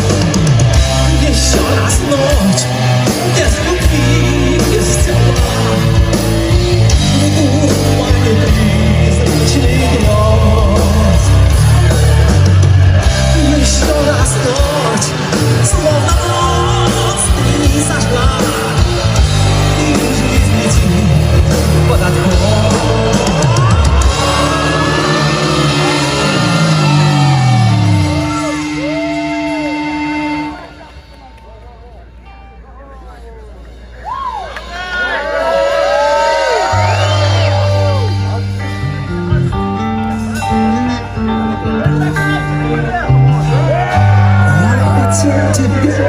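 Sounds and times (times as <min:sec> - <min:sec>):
lead guitar line with pitch bends: 0:00.0 - 0:34.0, 0:35.9 - 0:46.0
live rock band playing: 0:00.0 - 0:46.0.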